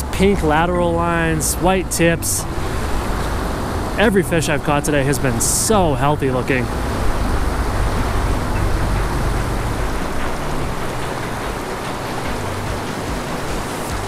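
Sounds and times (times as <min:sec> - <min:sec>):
river rushing over rocks: 0:00.3 - 0:14.0.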